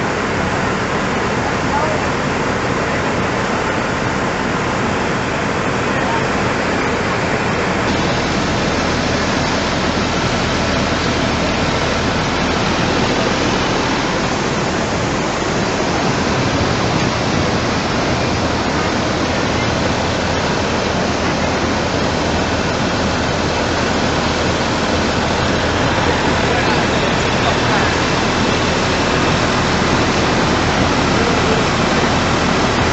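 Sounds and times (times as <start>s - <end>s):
flood torrent rushing: 0.0s - 32.9s.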